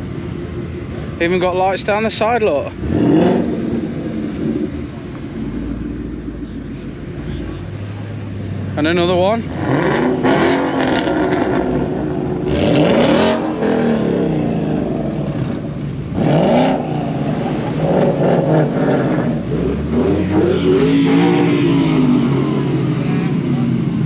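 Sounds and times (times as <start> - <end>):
car engines revving past: 0.8 - 24.0.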